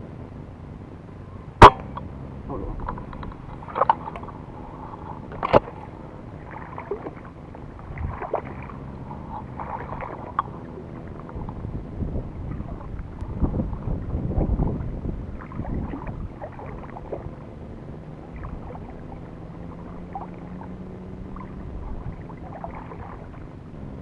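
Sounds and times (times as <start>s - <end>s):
water sloshing and splashing: 2.8s - 24.0s.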